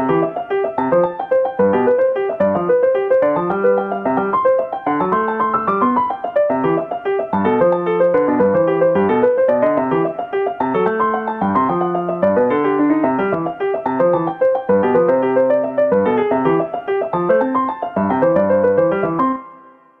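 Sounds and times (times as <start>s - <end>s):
solo piano music: 0.0s - 20.0s.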